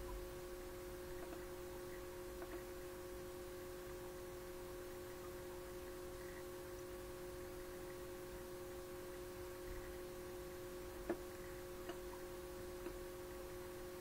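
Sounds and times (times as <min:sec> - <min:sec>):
electronic hum with hiss: 0:00.0 - 0:14.0.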